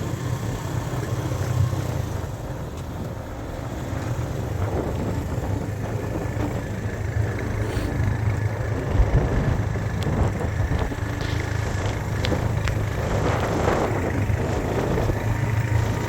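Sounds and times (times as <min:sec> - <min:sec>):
road rumble: 0:00.0 - 0:16.0
vehicle engine running: 0:00.0 - 0:16.0.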